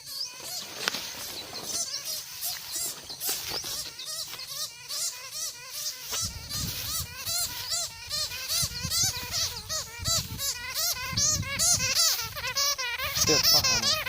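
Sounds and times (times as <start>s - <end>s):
small animal squeaking: 0.0s - 14.0s.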